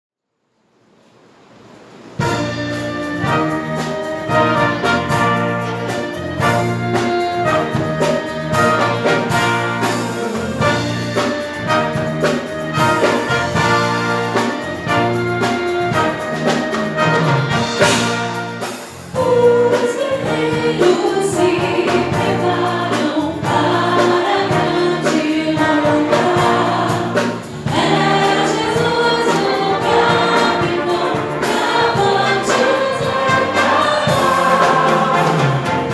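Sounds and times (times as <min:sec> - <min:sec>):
brass instruments playing chords: 0:02.2 - 0:35.9
choir singing: 0:02.4 - 0:35.9.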